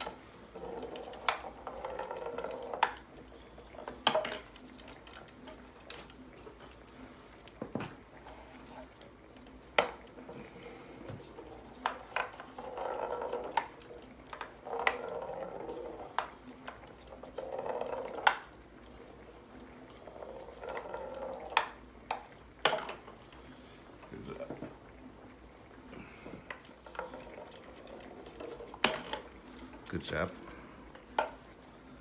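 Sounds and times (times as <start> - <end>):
ball rolling and scraping: 0.0 - 24.8, 26.3 - 32.0.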